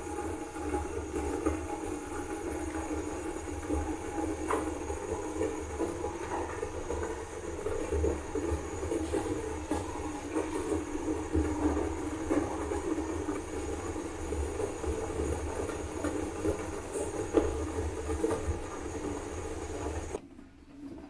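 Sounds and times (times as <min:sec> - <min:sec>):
syrup bubbling in a pan: 0:00.0 - 0:20.2.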